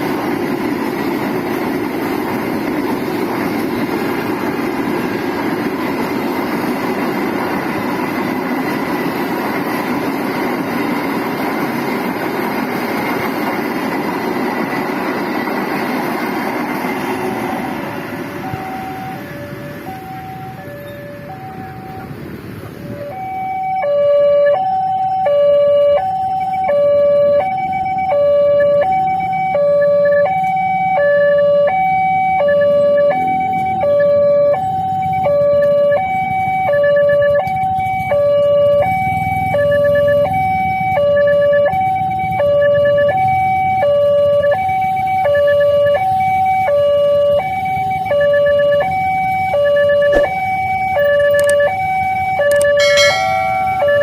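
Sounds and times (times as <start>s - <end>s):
two-tone crossing alarm: 0.0s - 54.0s.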